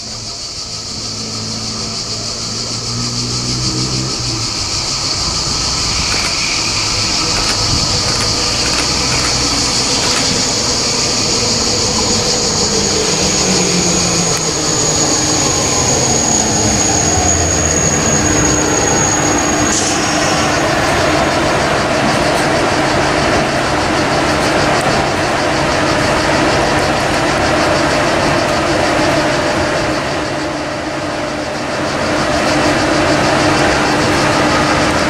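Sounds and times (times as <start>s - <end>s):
high steady whine: 0.0s - 35.0s
train rumble: 0.0s - 35.0s
train motor tone falling in pitch: 0.9s - 35.0s.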